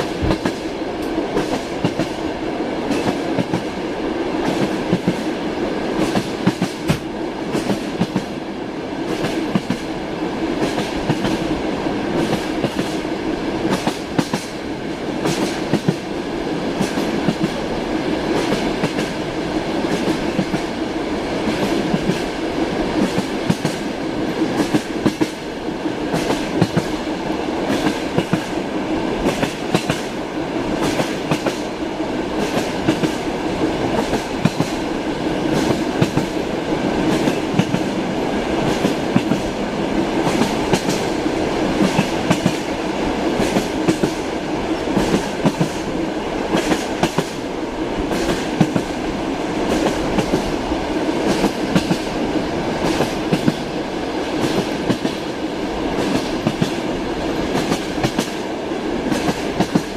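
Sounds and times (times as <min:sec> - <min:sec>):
train wheels clattering over rails: 0:00.0 - 0:08.4, 0:09.0 - 0:59.9
steady train rumble: 0:00.0 - 0:59.9.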